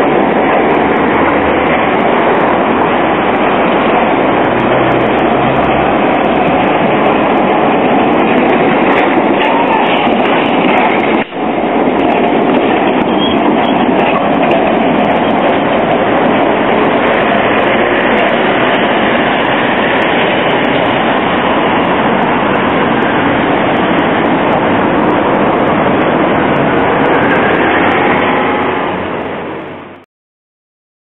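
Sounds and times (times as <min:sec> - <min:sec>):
tram running on track: 0:00.0 - 0:30.0.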